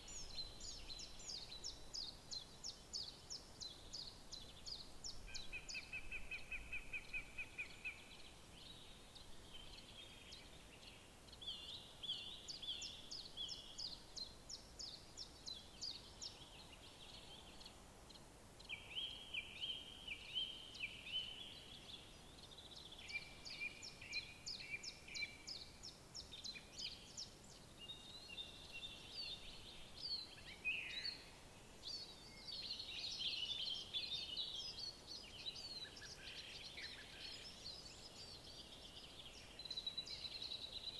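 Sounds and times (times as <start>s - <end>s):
faint background hiss: 0.0s - 40.9s
songbirds singing: 0.0s - 40.9s.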